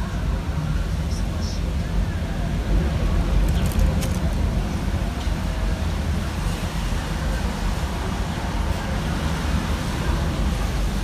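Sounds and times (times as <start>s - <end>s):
strong wind rushing through window: 0.0s - 11.0s.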